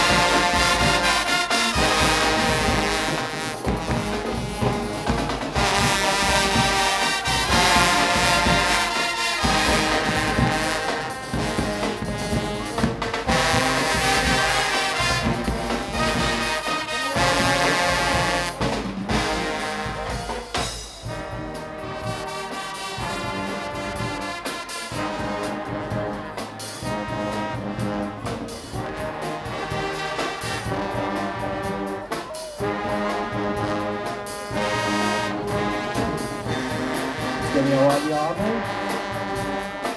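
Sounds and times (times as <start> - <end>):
blaring trumpets and trombones: 0.0 - 39.9
brass band playing loudly: 0.0 - 39.9
heavy drum beat: 0.0 - 39.9.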